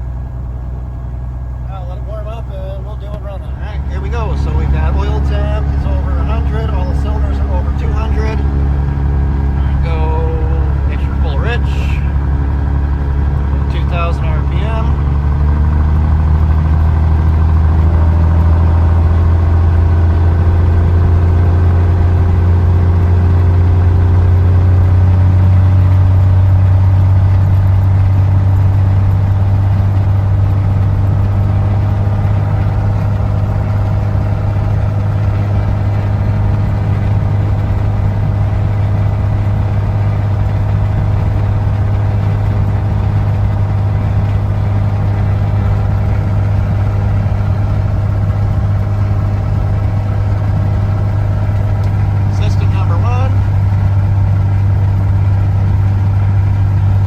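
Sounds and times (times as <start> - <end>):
aircraft engine running: 0.0 - 57.0.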